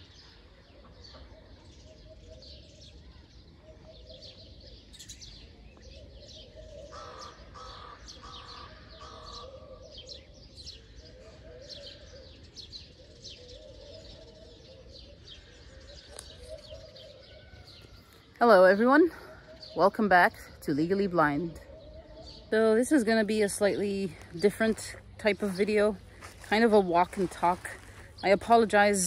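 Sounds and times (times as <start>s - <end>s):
lower bird call: 0.0s - 28.4s
birds chirping and twittering: 0.0s - 29.0s.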